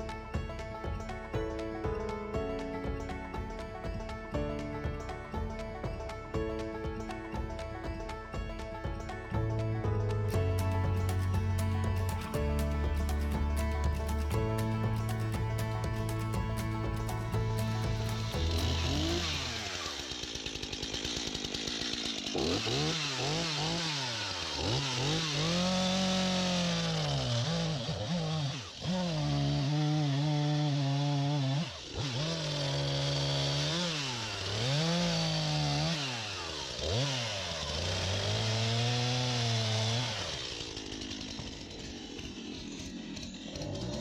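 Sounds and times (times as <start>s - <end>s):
chainsaw revving: 0.0s - 44.0s.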